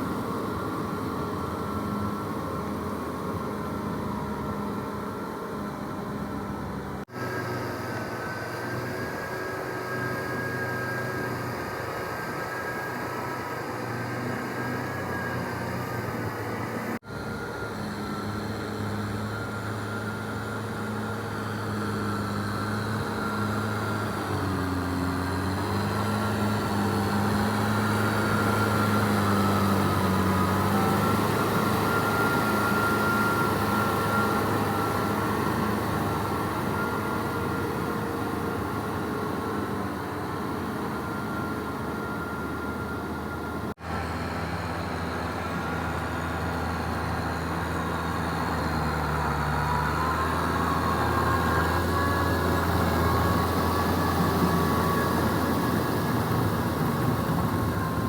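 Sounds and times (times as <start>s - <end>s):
thin steady whine: 0.0s - 58.0s
tractor diesel engine running: 0.0s - 58.0s.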